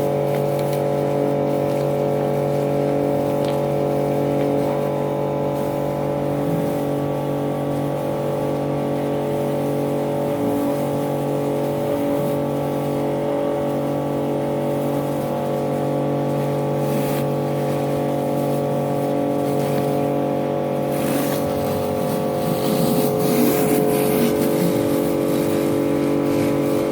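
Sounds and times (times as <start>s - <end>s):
pressure washer motor drone: 0.0s - 26.9s.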